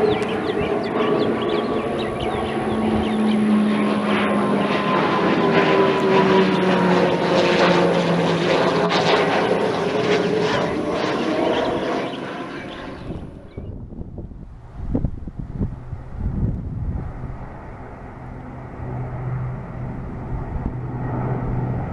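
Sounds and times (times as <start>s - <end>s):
aircraft engine drone: 0.0s - 21.9s.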